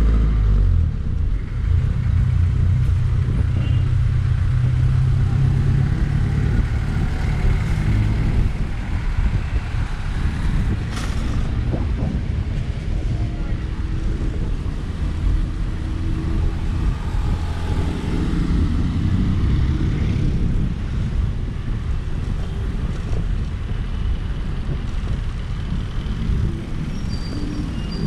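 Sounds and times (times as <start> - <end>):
road noise: 0.0 - 28.0
wind buffeting microphone: 0.8 - 28.0.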